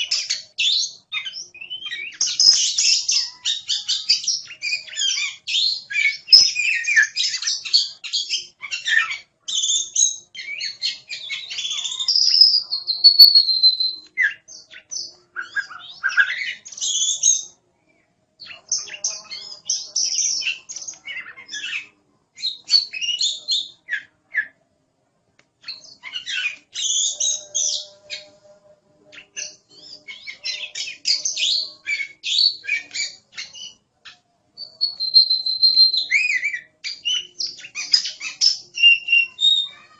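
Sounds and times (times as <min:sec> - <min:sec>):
bird singing chirps and whistles: 0:00.0 - 0:17.6, 0:18.4 - 0:24.6, 0:25.6 - 0:28.4, 0:29.1 - 0:39.8.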